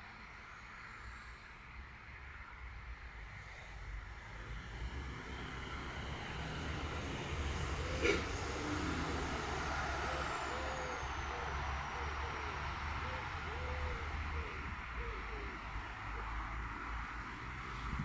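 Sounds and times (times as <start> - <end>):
aircraft passing overhead: 2.8 - 18.0.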